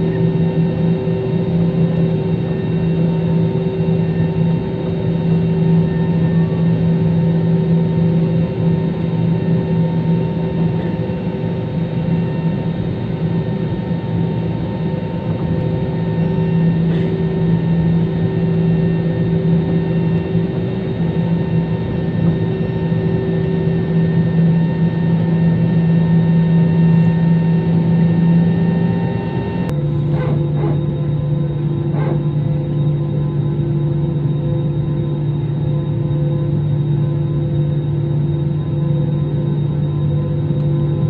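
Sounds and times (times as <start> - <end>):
airliner engine and airflow drone: 0.0 - 41.0
constant low hum: 0.0 - 41.0.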